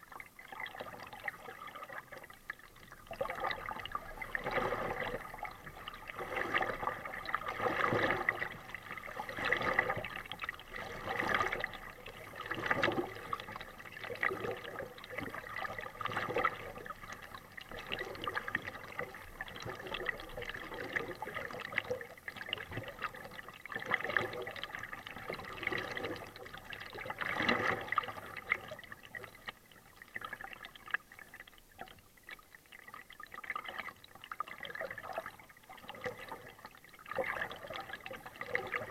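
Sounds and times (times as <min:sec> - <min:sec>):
paddle strokes through water: 0:00.0 - 0:38.9.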